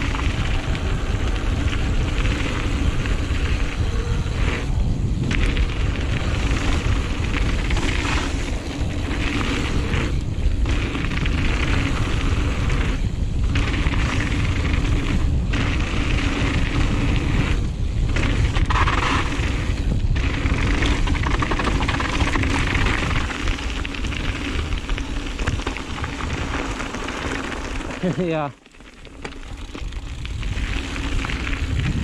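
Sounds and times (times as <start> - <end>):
wind buffeting microphone: 0.0 - 28.6, 29.4 - 32.0
bike tyres rolling on dirt: 0.0 - 32.0.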